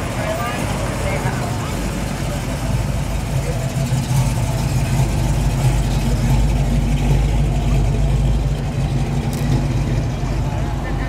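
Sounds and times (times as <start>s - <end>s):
car engine and exhaust running: 0.0s - 11.0s.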